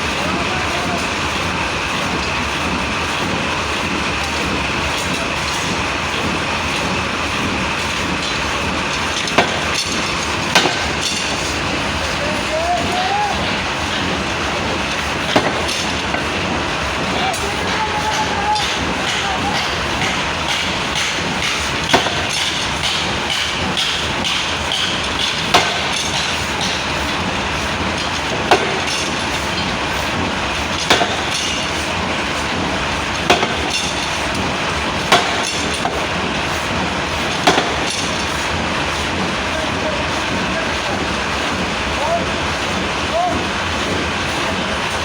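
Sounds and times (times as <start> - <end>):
steady workshop noise: 0.0 - 45.0.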